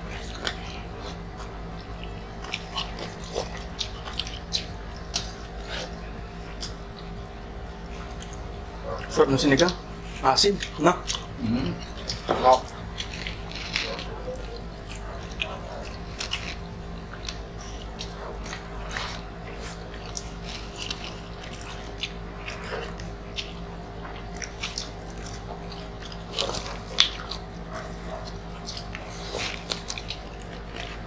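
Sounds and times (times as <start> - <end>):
people chewing food: 0.0 - 31.0
steady low hum: 0.0 - 31.0.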